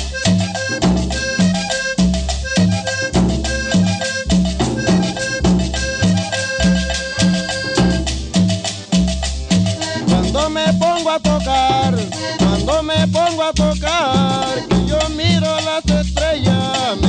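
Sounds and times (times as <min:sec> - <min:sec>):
instrumental cumbia music: 0:00.0 - 0:17.0.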